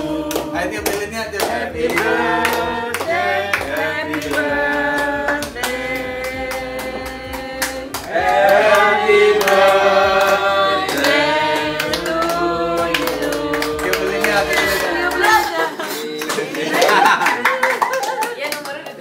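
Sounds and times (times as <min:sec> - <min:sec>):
group singing held notes: 0:00.0 - 0:17.3
hand clapping: 0:00.2 - 0:15.5, 0:16.2 - 0:19.0.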